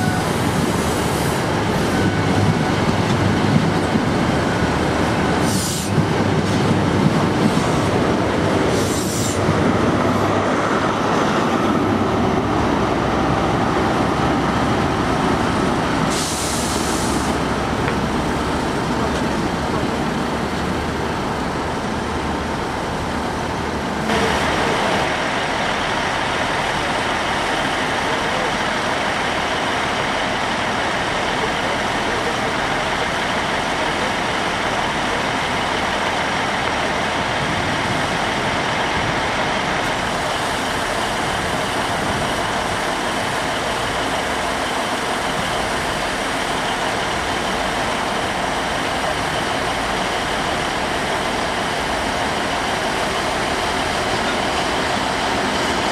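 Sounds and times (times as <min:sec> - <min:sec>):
diesel locomotive running: 0:00.0 - 0:55.9.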